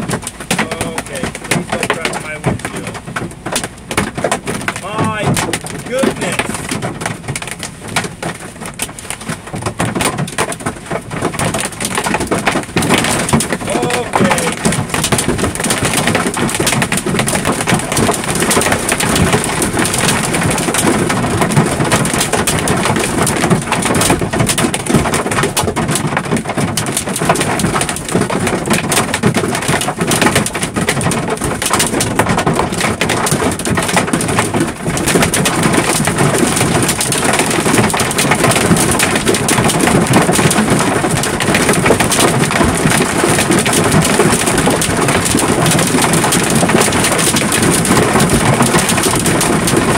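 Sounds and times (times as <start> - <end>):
hail pelting a truck: 0.0 - 49.9.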